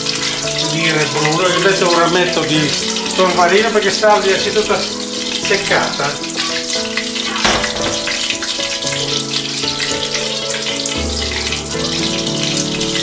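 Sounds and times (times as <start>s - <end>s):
butter sizzling in a frying pan: 0.0s - 13.0s
soft background music: 0.0s - 13.0s.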